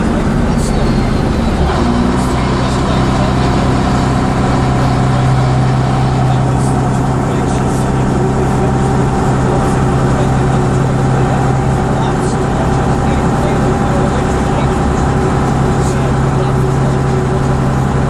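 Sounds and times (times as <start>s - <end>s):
coach diesel engine droning: 0.0s - 18.0s
road noise: 0.0s - 18.0s.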